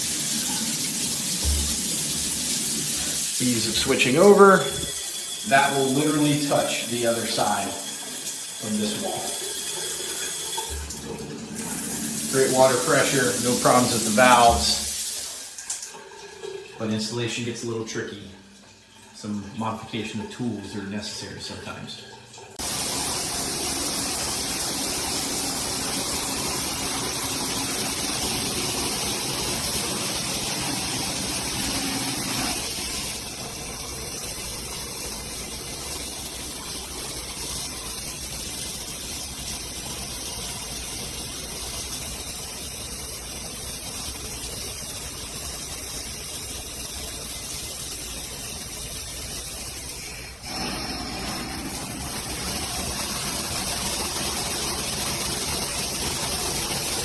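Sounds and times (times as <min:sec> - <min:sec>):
shower water pouring: 0:00.0 - 0:57.0.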